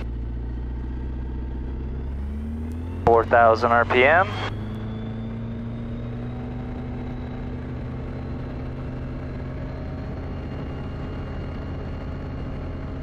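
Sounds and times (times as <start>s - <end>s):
light aircraft engine and propeller: 0.0s - 13.0s.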